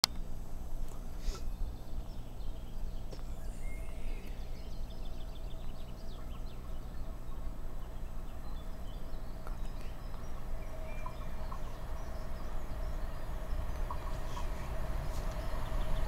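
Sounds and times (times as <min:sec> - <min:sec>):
songbirds chirping: 0:00.0 - 0:16.0
steady low rumble: 0:00.0 - 0:16.0.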